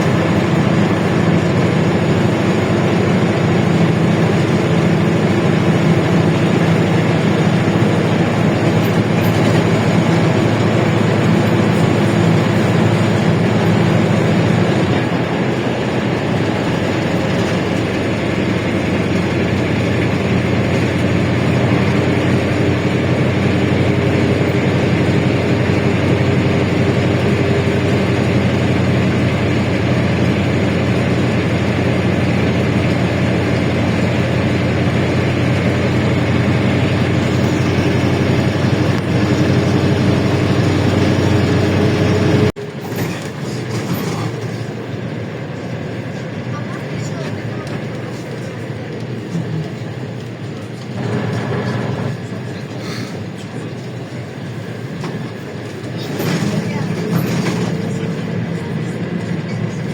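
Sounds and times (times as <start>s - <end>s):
drivetrain and body rattle: 0.0s - 44.9s, 53.7s - 59.9s
bus engine running: 0.0s - 59.9s.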